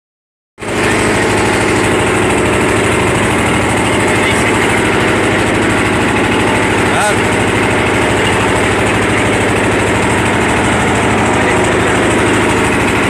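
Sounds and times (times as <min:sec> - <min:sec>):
engine running fast: 0:00.6 - 0:13.0.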